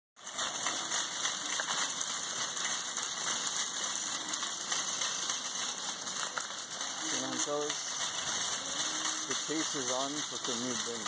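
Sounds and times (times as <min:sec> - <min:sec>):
shopping cart rattling: 0:00.2 - 0:11.0.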